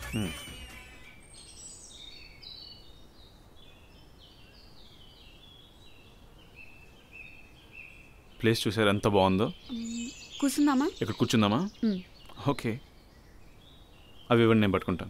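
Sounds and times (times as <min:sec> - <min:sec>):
birds chirping: 0:00.0 - 0:15.0
faint outdoor background noise: 0:00.0 - 0:15.0.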